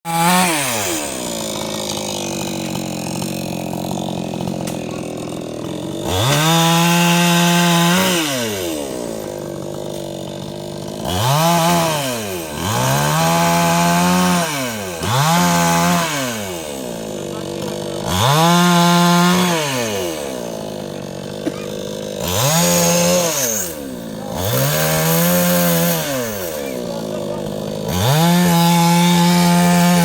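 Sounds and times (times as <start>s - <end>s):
chainsaw engine revving and idling: 0.0s - 30.0s.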